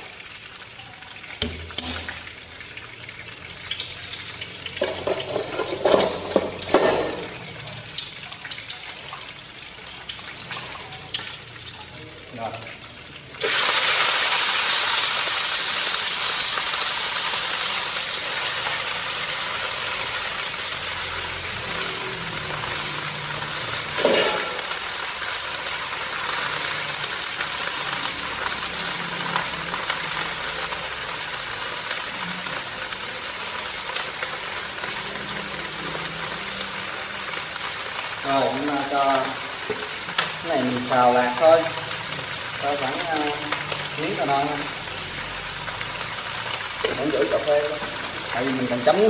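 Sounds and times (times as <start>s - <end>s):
fish frying in hot oil: 0.0s - 49.0s.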